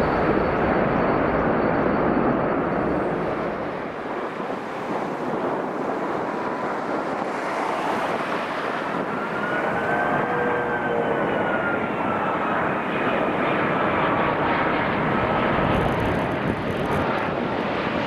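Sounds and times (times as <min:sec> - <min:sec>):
jet engine whine: 0:00.0 - 0:18.0
jet engines rushing: 0:00.0 - 0:18.0.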